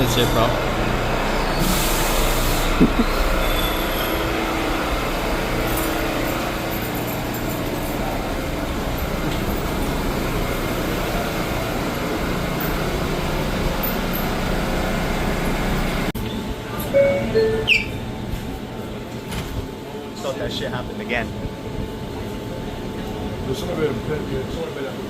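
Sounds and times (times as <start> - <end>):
subway car rumble: 0.0 - 25.0.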